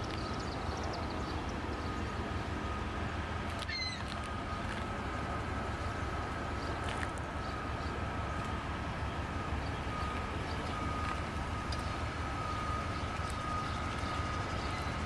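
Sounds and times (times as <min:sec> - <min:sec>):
faint steady whine: 0:00.0 - 0:15.0
train rumble and hiss: 0:00.0 - 0:15.0.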